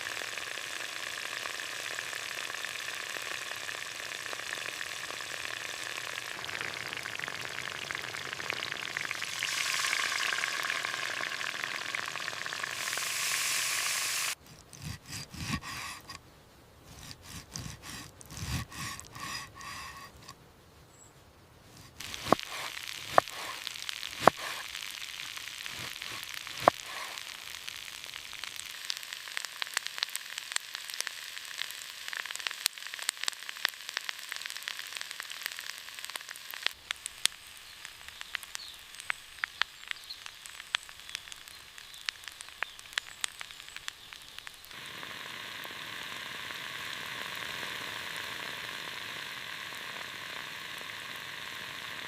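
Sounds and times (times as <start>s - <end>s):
food sizzling in a hot pan: 0.0s - 14.4s, 21.8s - 52.0s
sharp pops and crackles: 0.0s - 16.2s, 16.9s - 20.4s, 21.7s - 52.0s.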